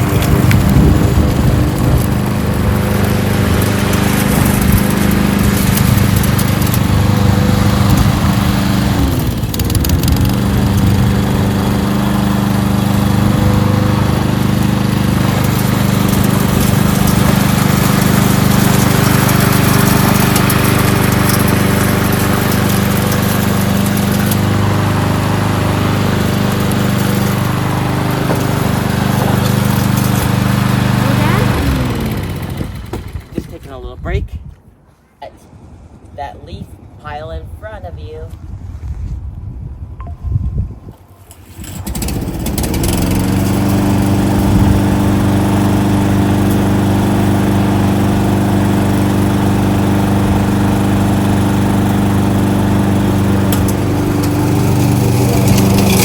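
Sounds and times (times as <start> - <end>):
lawn mower engine running: 0.0 - 33.9, 41.1 - 56.0.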